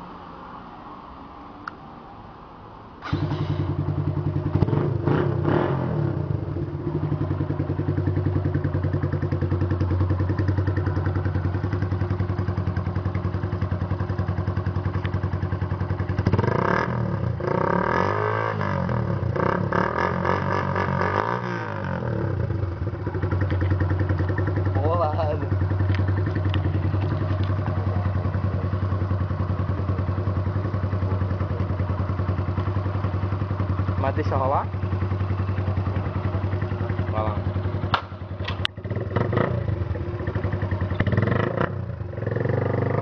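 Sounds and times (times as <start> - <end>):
motorcycle engine revving: 3.0 - 43.0
motorcycle engine idling: 3.1 - 5.1, 6.1 - 17.8, 19.0 - 43.0.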